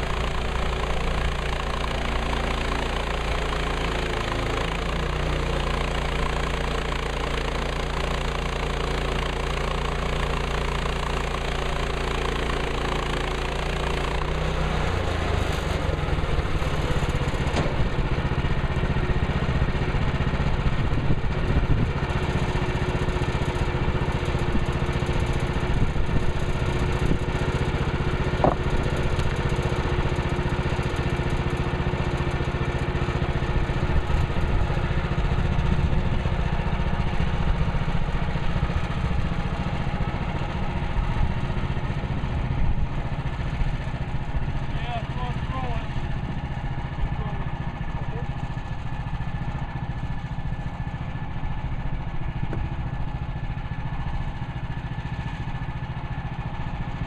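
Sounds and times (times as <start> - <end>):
sawmill gas engine running: 0.0 - 57.0.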